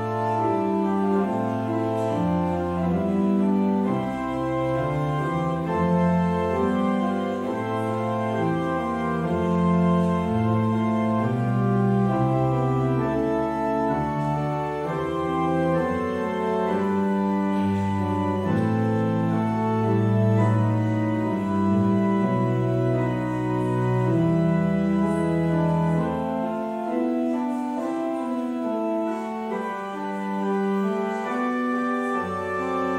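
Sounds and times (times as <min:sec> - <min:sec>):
organ music: 0:00.0 - 0:32.9.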